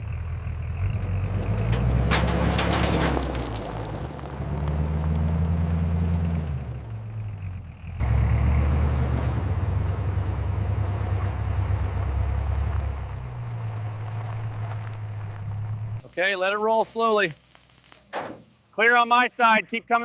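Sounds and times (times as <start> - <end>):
vehicle engine rumble: 0.0 - 18.8.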